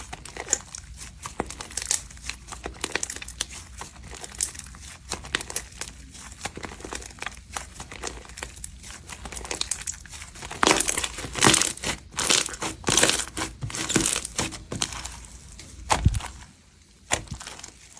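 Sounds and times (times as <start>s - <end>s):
crunchy slime squished: 0.0s - 17.9s.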